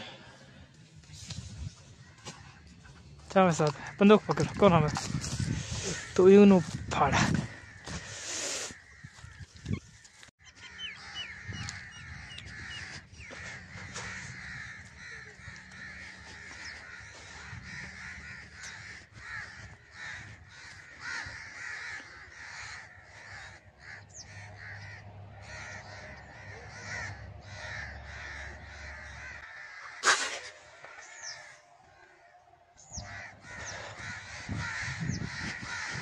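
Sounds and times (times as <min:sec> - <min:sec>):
crows cawing: 0:03.6 - 0:36.0.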